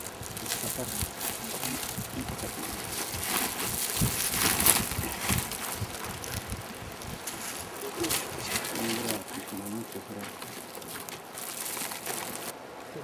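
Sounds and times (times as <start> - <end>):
plastic sack rustling: 0.0 - 12.5.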